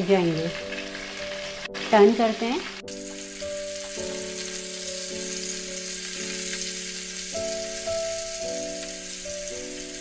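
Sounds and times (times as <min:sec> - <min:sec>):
fish sizzling in hot oil: 0:00.0 - 0:10.0
soft background music: 0:00.0 - 0:10.0.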